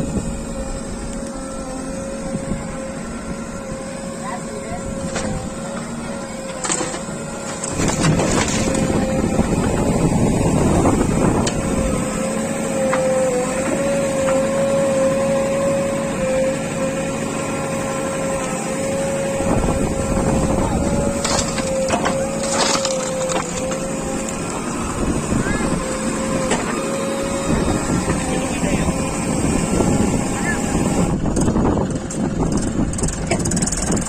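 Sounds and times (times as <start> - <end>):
diesel engine under load: 0.0 - 34.0
hydraulic whine: 0.0 - 34.0.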